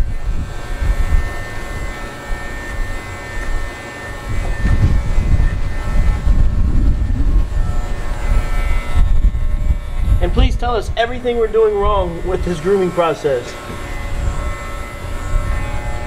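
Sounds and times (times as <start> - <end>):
electric clippers buzzing: 0.0 - 16.0.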